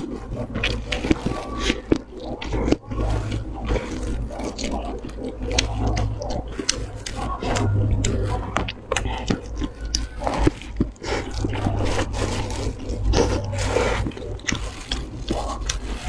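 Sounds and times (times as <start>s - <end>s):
crunchy chewing: 0.0s - 16.0s
wet mouth sounds: 0.0s - 16.0s.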